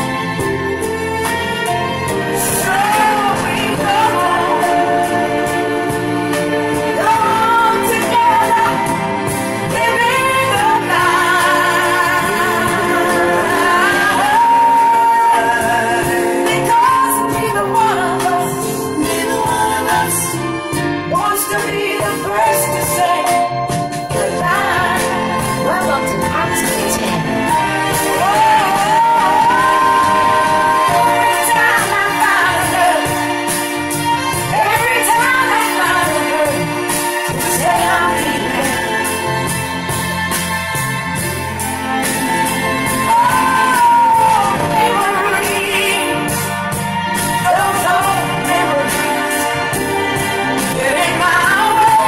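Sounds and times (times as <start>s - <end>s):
pop backing track: 0.0s - 52.0s
woman singing into a microphone: 2.4s - 20.5s, 21.1s - 33.4s, 34.4s - 39.2s, 42.3s - 46.6s, 47.3s - 52.0s.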